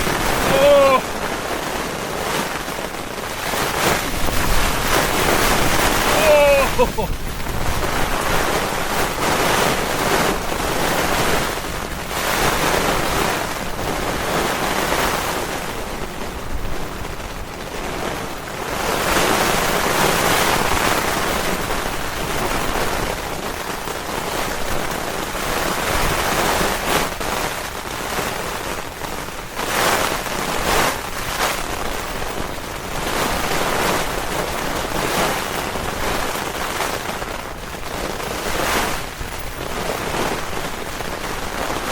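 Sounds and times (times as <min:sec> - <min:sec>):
heavy rain: 0:00.0 - 0:41.9
strong gusting wind: 0:00.0 - 0:41.9.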